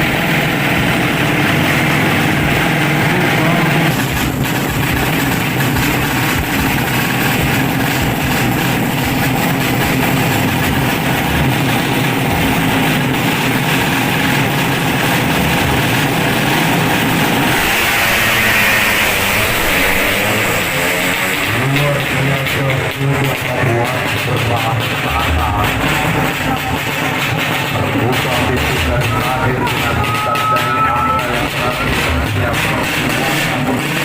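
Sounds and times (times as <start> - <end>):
motorcycle engines idling: 0.0 - 34.0.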